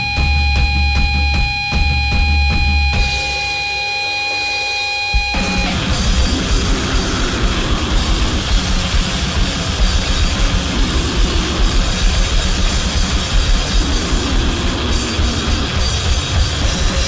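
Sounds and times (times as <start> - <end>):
noisegrind music: 3.0 - 17.0.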